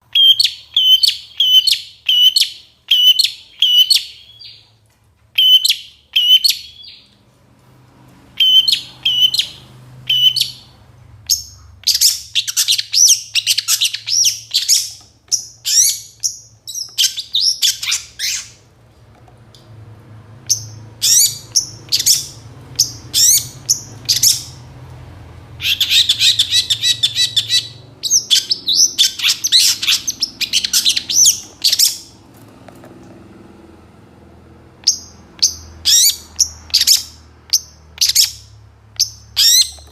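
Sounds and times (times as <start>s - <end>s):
bird singing rapid high chirps: 0.0s - 4.7s, 5.4s - 7.1s, 8.3s - 18.7s, 20.5s - 24.7s, 25.5s - 32.2s, 34.7s - 39.9s.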